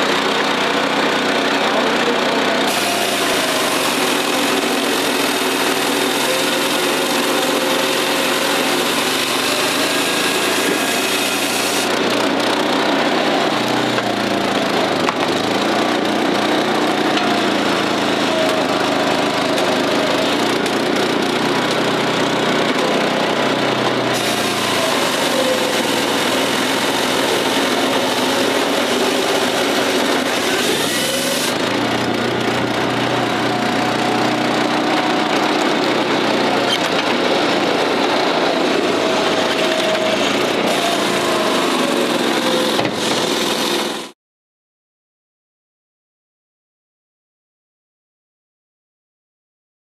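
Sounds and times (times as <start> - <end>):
saw cutting logs: 0.0 - 44.2
wood processor engine running: 0.0 - 44.2.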